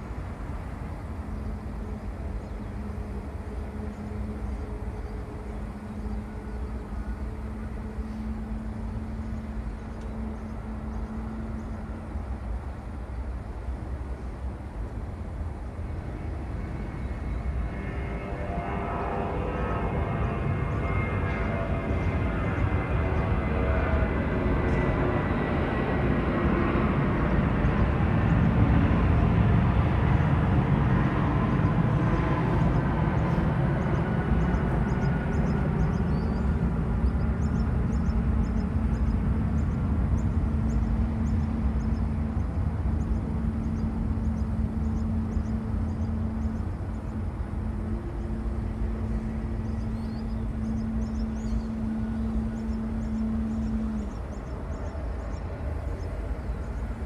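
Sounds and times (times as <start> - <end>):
jet engine rumble: 0.0 - 57.0
steady hum: 0.0 - 57.0.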